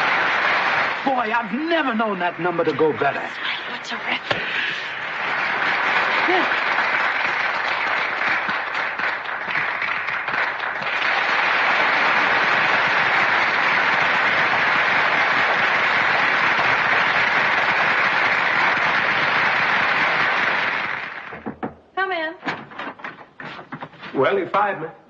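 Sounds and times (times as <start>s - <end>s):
audience applauding: 0.0s - 21.5s.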